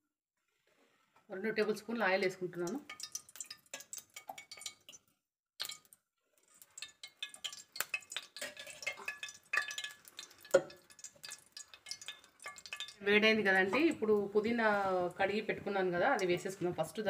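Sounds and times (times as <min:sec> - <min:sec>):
oil crackling and popping in pan: 0:00.4 - 0:17.0.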